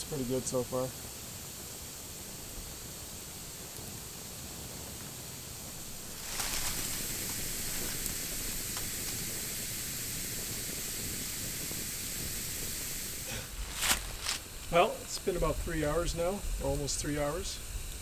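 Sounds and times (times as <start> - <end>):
faint fire crackles: 0.0 - 18.0
log fire hissing: 0.0 - 18.0.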